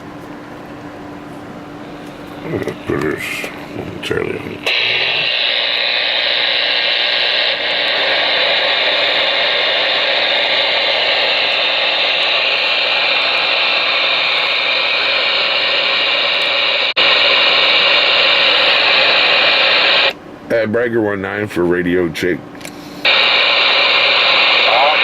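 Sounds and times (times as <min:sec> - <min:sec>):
radio static hiss: 0:01.8 - 0:20.2, 0:22.8 - 0:25.0.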